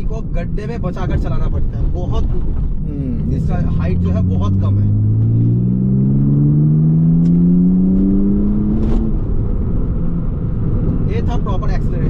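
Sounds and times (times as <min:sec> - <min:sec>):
tyre and road noise: 0:00.0 - 0:12.0
car engine accelerating: 0:01.7 - 0:12.0.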